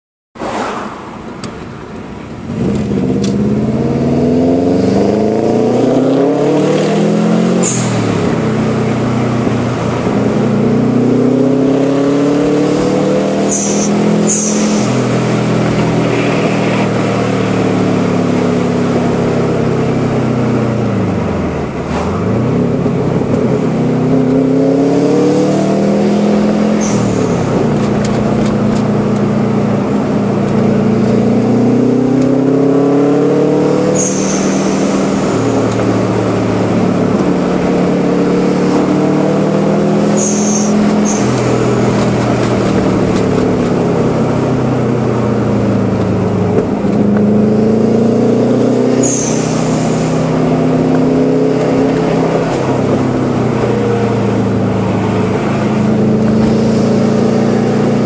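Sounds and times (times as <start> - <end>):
turbocharged car engine revving: 2.4 - 58.0.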